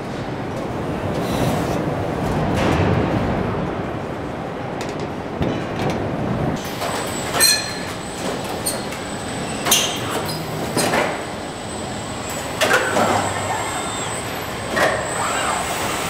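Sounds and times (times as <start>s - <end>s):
machinery noise with high whine: 0.0s - 16.0s.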